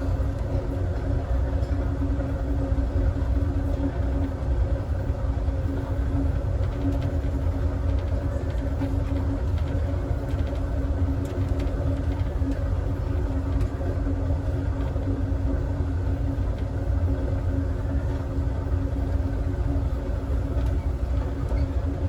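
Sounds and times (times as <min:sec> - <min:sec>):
constant hum: 0:00.0 - 0:22.0
train wheels rumbling on rail: 0:00.0 - 0:22.0.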